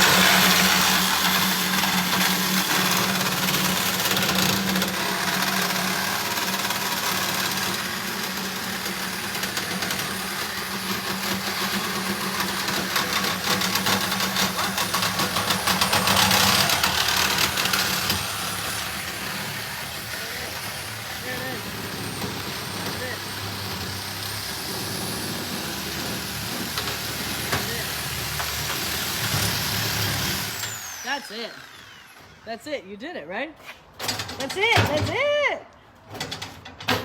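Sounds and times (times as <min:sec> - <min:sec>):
power tool grinding metal: 0:00.0 - 0:32.5.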